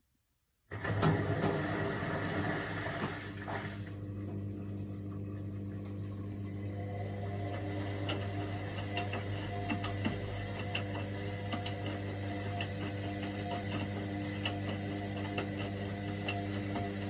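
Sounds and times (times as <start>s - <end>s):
washing machine humming: 0.7s - 17.0s.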